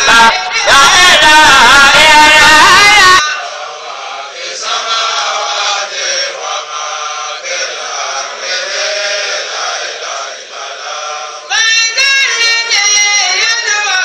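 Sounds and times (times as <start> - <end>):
voices chanting a sung refrain: 0.0 - 14.0.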